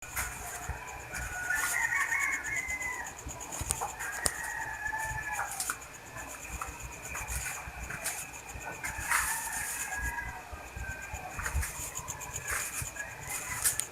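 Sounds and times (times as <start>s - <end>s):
rooster crowing: 0.1s - 13.9s.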